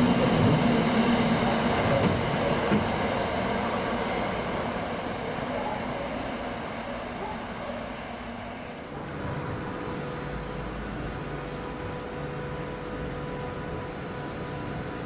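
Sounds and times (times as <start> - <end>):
diesel train engine running: 0.0 - 7.6, 8.7 - 15.0.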